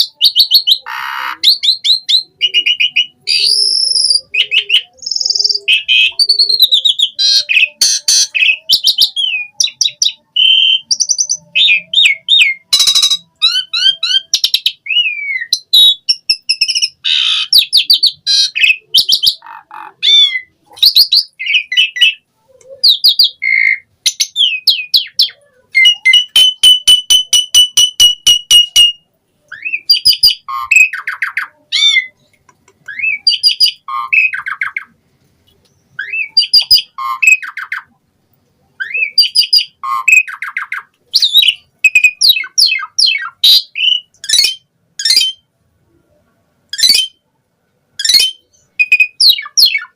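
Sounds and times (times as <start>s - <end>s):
starling singing whistles and chatter: 0.0s - 35.0s, 35.8s - 38.0s, 38.7s - 45.5s, 46.8s - 47.2s, 48.0s - 49.9s.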